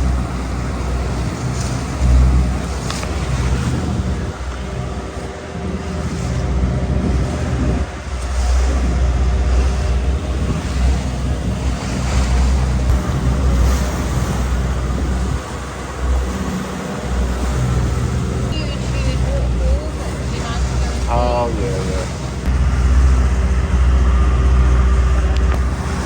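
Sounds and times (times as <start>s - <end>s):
boat engine drone: 0.0s - 26.0s
water rushing past hull: 0.0s - 26.0s
wind buffeting microphone: 0.0s - 26.0s.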